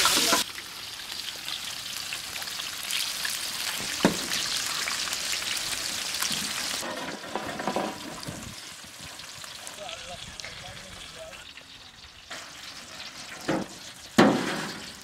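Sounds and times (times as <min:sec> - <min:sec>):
eggs sizzling in hot oil: 0:00.0 - 0:15.0.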